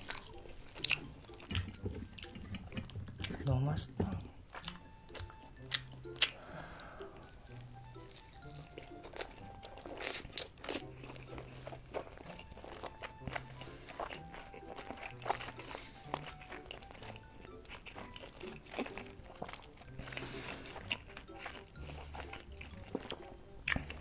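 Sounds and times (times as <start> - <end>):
chewing with wet mouth smacks: 0.0 - 3.5, 4.1 - 24.0
soft background music: 0.0 - 24.0.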